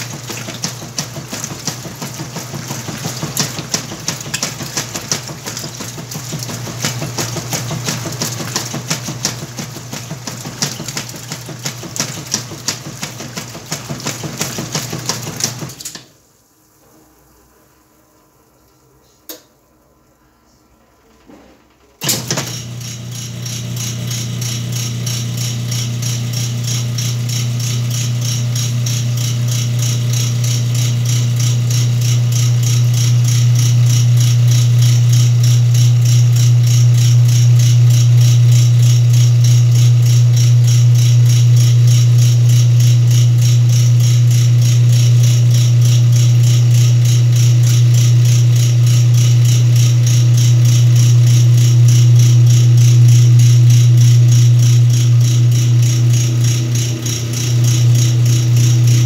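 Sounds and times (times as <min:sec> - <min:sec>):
washing machine draining: 0:00.0 - 0:16.2, 0:21.6 - 0:59.0.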